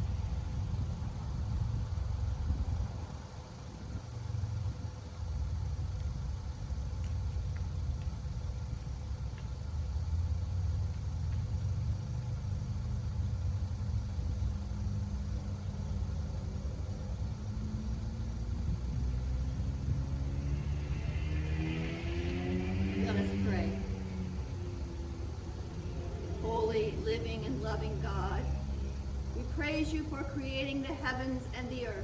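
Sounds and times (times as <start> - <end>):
low rumble: 0.0 - 31.7.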